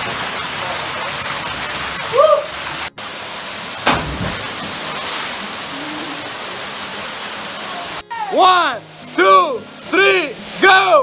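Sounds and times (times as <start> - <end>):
waterfall rushing: 1.2 - 11.0.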